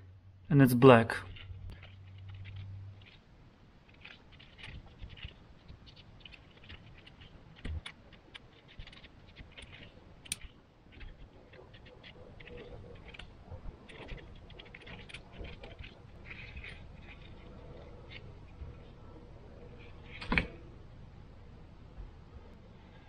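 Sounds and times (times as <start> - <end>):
paper filter crinkling: 1.2 - 20.5.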